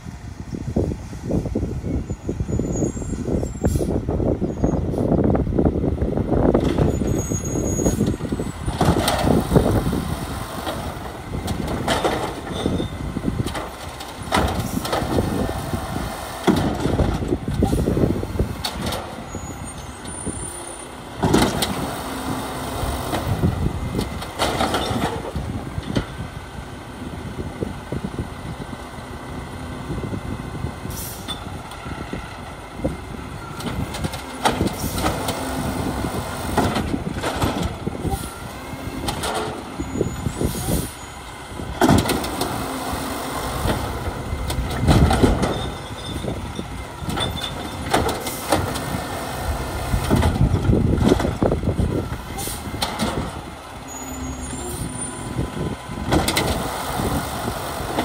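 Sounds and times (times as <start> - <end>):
garbage truck engine running: 0.0 - 58.0.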